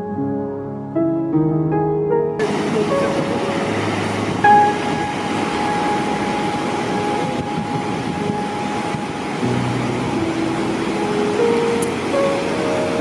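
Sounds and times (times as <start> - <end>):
slow background music: 0.0 - 13.0
steady rushing noise: 2.4 - 13.0.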